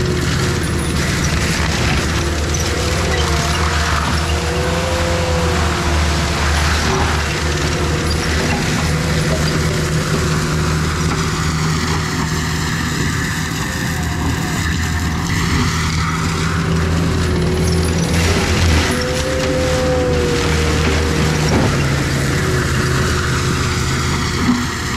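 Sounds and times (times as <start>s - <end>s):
mulcher diesel engine droning: 0.0s - 24.9s.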